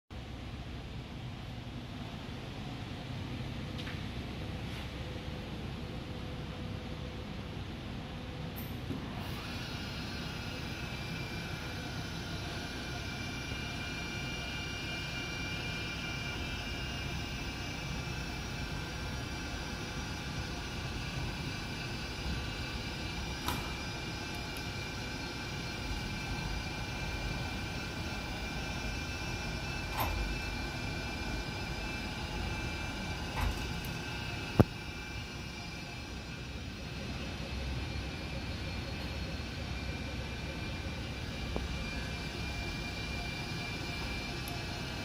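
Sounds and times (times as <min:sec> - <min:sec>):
machine hum with whining tones: 0:00.1 - 0:45.0.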